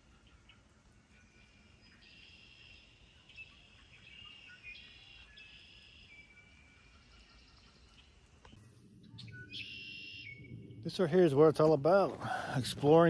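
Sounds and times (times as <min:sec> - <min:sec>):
faint birds calling and trilling: 0:00.0 - 0:13.0.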